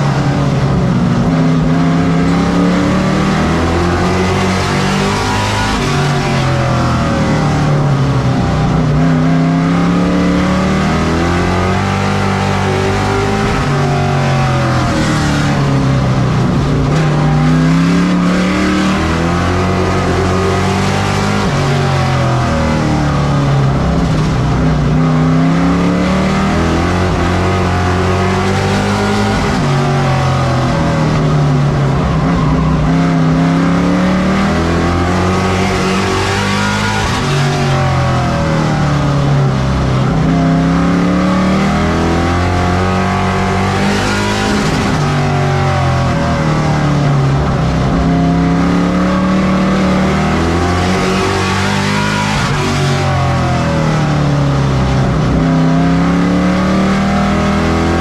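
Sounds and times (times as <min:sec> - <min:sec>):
race truck engines revving: 0:00.0 - 0:58.0.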